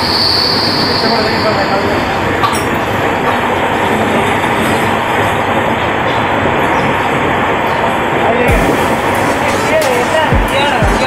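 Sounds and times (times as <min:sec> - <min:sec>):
train wheel and rail noise: 0:00.0 - 0:11.0.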